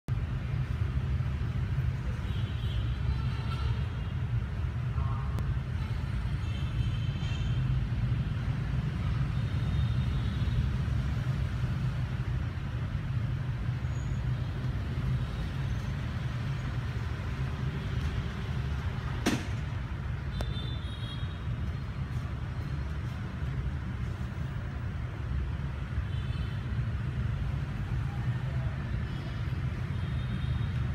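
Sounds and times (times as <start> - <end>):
low rumble of vehicles: 0.1 - 30.9.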